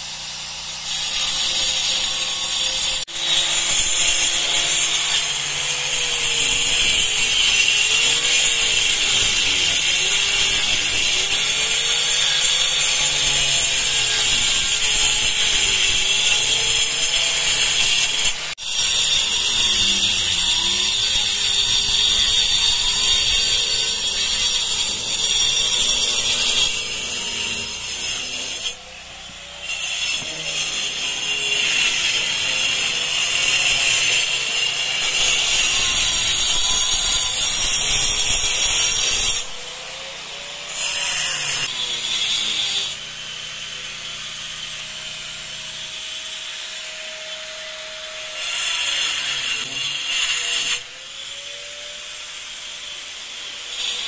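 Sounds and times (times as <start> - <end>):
angle grinder cutting brick: 0.0 - 54.0.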